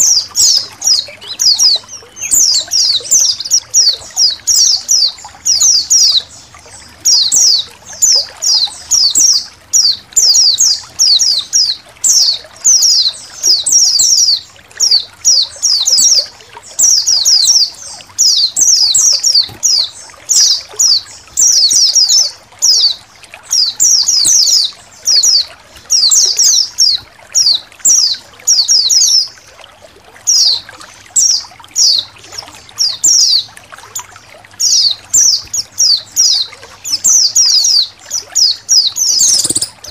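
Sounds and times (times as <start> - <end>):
birds chirping: 0.0 - 29.5, 30.2 - 39.9
water trickling: 0.0 - 39.9.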